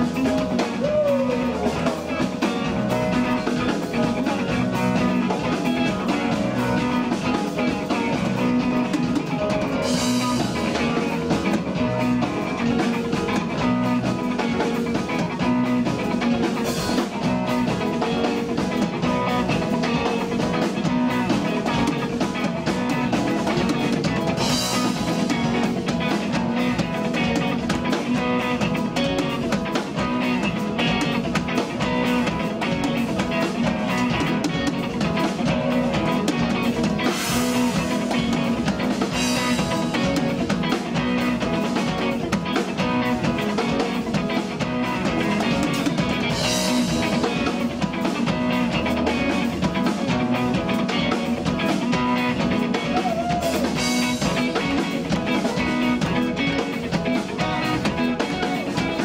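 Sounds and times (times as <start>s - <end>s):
instrumental rock band playing: 0.0s - 59.0s.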